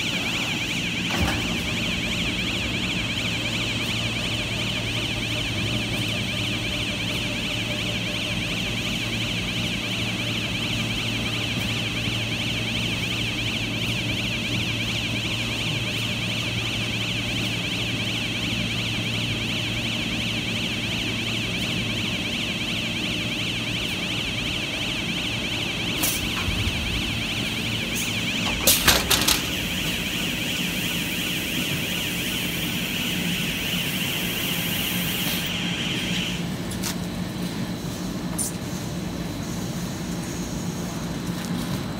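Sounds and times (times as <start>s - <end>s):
machine humming: 0.0s - 37.9s
warbling electronic alarm: 0.0s - 41.2s.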